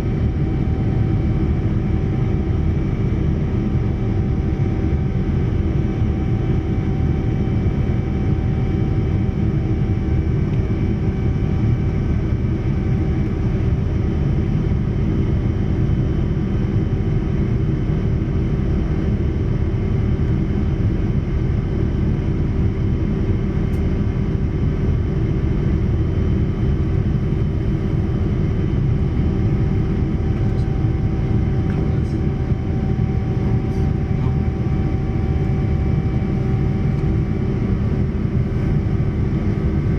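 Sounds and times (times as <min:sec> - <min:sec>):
aircraft cabin engine rush: 0:00.0 - 0:39.9.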